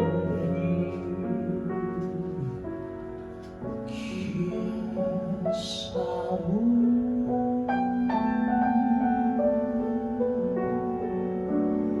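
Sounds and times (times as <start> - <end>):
piano accompaniment: 0.0 - 12.0.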